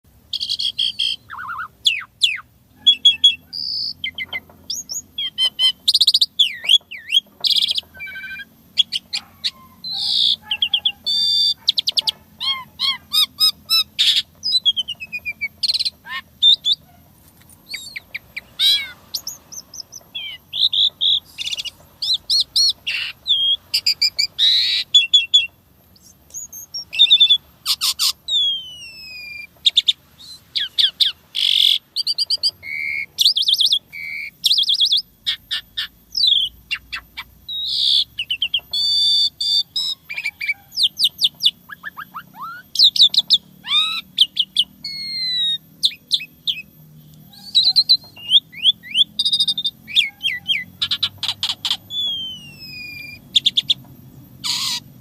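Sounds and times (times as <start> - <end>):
starling singing varied song: 0.0 - 55.0.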